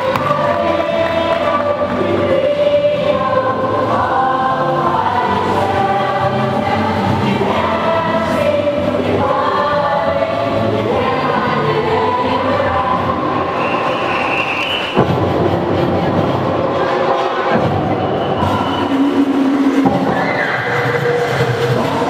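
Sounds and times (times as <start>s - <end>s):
choir singing held notes: 0.0s - 22.0s.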